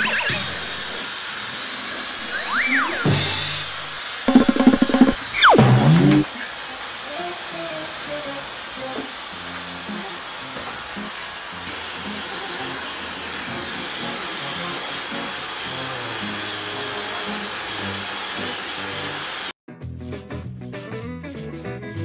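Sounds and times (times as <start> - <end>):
hair dryer running: 0.1 - 19.6.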